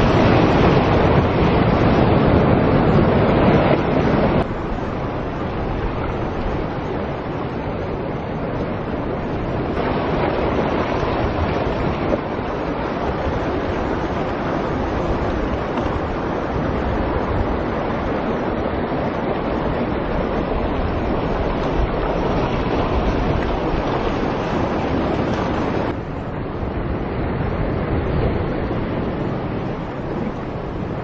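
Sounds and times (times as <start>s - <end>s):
sea surf on shore: 0.0s - 31.0s
wind rumbling on microphone: 0.0s - 31.0s.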